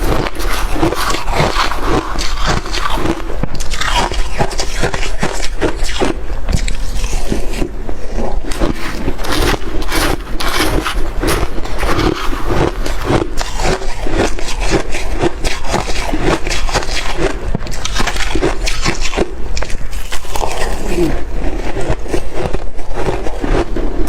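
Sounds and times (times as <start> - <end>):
person crunching ice: 0.0 - 24.0.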